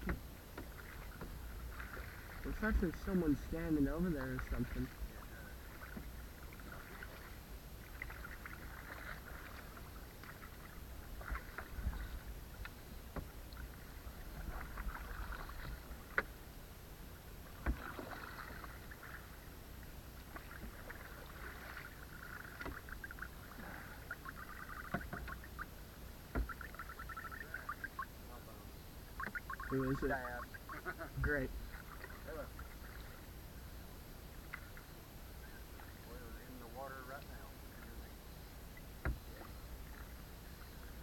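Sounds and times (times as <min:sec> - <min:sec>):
low steady rumble: 0:00.0 - 0:41.0
paddle water swishing and splashing: 0:00.0 - 0:41.0.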